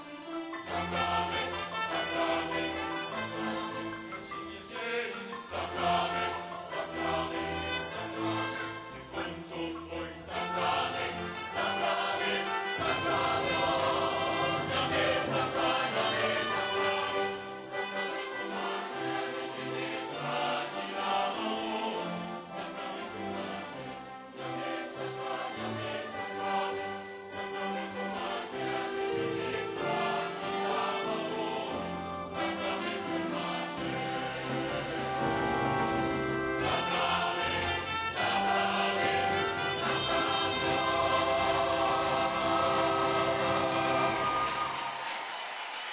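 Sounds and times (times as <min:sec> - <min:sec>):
choir singing in harmony: 0:00.0 - 0:45.9.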